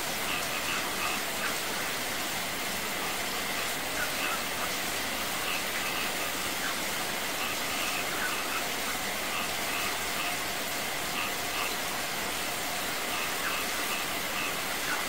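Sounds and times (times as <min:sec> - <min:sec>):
heavy rain on concrete: 0:00.0 - 0:15.0
water gushing over rocks: 0:00.0 - 0:15.0.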